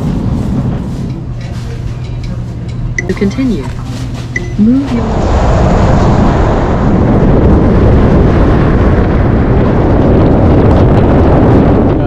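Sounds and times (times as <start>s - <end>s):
wind and road noise: 0.0s - 12.0s
wind buffeting microphone: 0.0s - 12.0s.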